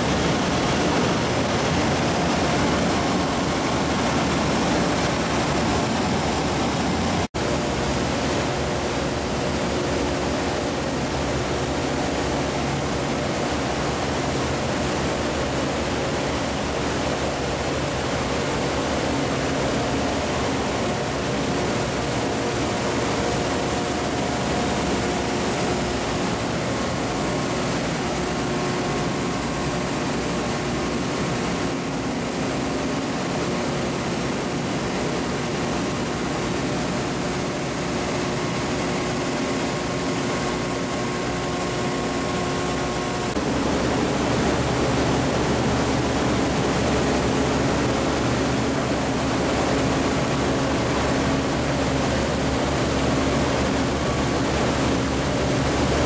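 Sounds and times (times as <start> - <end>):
industrial machinery hum: 0.0 - 56.0.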